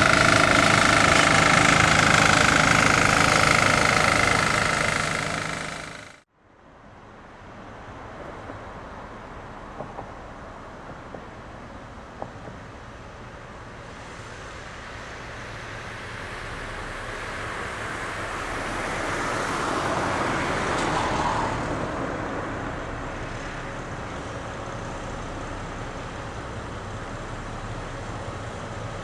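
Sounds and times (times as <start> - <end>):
distant locomotive rumble: 0.0 - 6.2, 7.5 - 29.0
passing vehicle: 0.0 - 6.2, 6.8 - 29.0.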